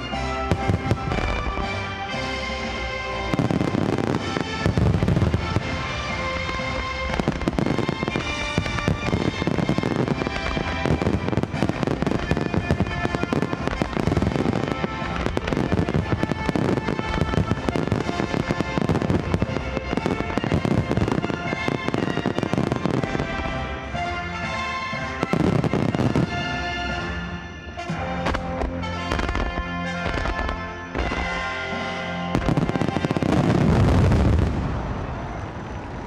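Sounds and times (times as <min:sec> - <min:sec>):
music playing: 0:00.0 - 0:35.0
fireworks booming and crackling: 0:00.0 - 0:36.0.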